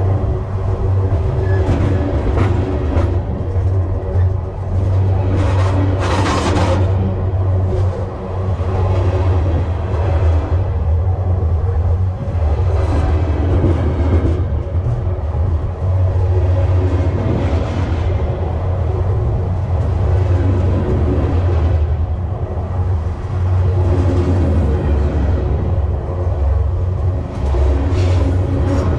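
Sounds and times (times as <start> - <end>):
faint clatter of train cars: 0.0 - 28.9
freight train wheels rumbling on rail: 0.0 - 28.9.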